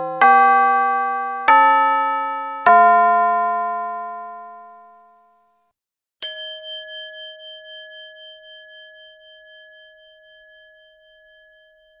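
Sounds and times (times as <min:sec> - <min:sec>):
singing bowl ringing: 0:00.0 - 0:05.2, 0:06.2 - 0:12.0.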